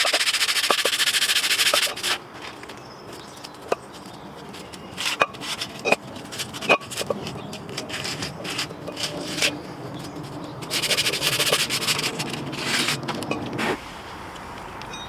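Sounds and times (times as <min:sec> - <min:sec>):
fast run of clicks: 0:00.0 - 0:13.6
tools scraping and rubbing: 0:00.0 - 0:13.8.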